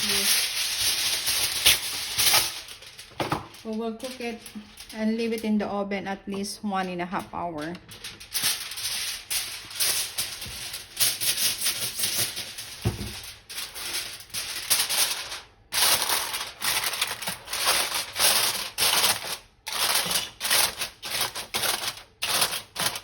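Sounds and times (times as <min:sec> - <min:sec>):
aluminium foil crinkling: 0:00.0 - 0:05.7, 0:06.4 - 0:23.0.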